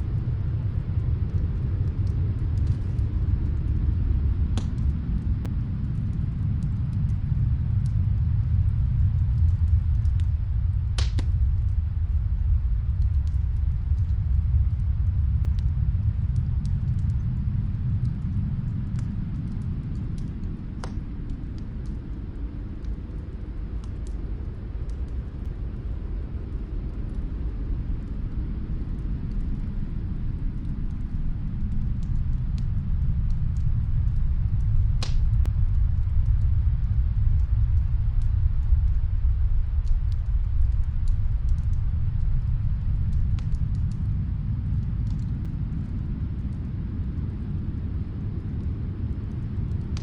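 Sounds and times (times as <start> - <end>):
fireplace fire crackling: 0.0 - 50.0
wind rumbling low: 0.0 - 50.0.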